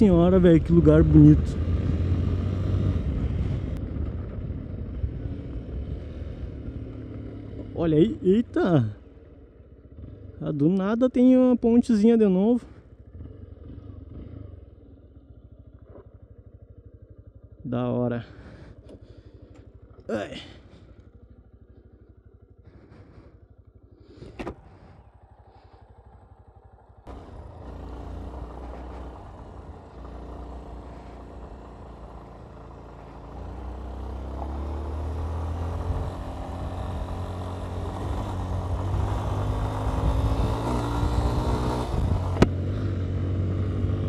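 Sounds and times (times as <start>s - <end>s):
motorcycle engine: 0.0s - 44.0s
wind and road noise: 0.0s - 44.0s.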